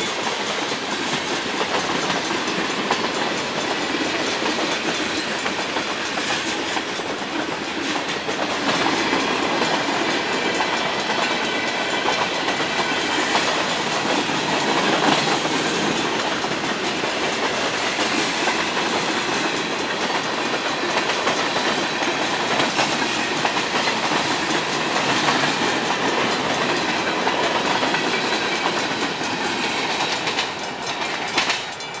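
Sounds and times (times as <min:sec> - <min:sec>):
railroad cars rolling past: 0:00.0 - 0:32.0
wheels clicking over rail joints: 0:00.0 - 0:32.0.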